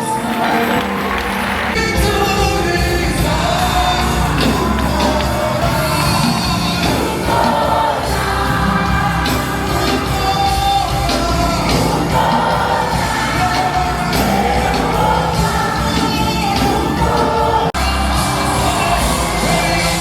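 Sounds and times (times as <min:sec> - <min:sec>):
crowd yelling and cheering: 0:00.0 - 0:20.0
gospel singers with band: 0:00.0 - 0:20.0.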